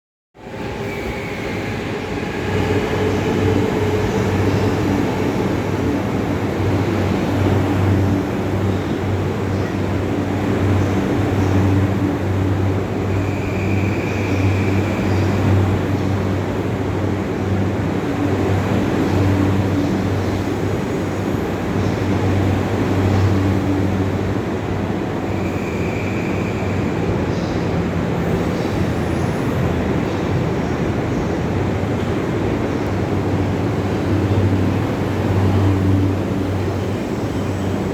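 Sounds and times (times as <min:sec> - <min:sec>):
train rail running noise: 0:00.4 - 0:37.9.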